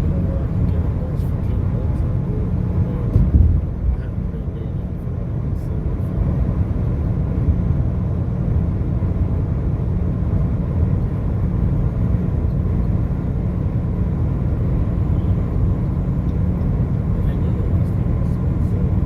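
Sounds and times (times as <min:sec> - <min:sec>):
car driving on highway: 0:00.0 - 0:19.0.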